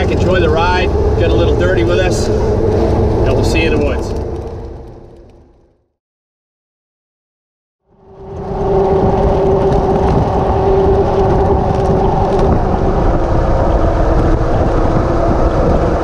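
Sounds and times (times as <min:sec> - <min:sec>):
car engine drone: 0:00.0 - 0:05.9, 0:07.8 - 0:16.0.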